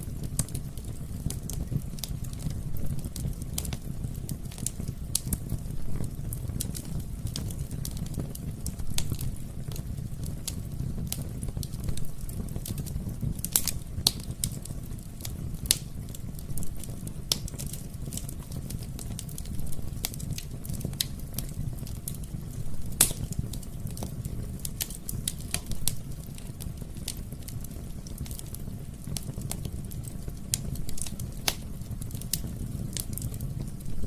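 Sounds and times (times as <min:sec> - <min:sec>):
fire crackling and popping: 0:00.0 - 0:34.0
low rumble of burning: 0:00.0 - 0:34.0.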